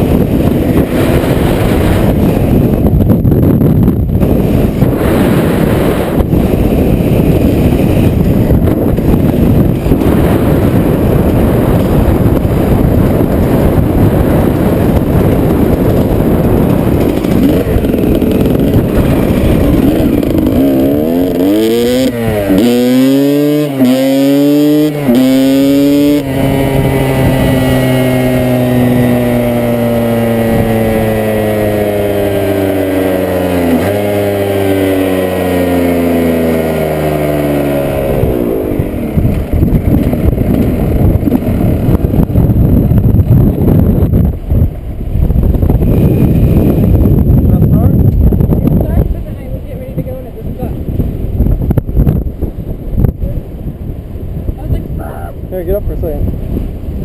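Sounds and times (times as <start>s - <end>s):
vehicle engine accelerating: 0.0s - 3.4s, 4.0s - 52.4s
wind buffeting microphone: 0.0s - 57.0s.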